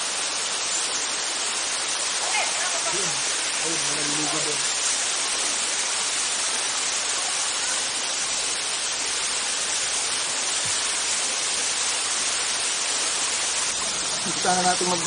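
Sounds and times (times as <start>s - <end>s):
waterfall cascading over rocks: 0.0s - 15.0s.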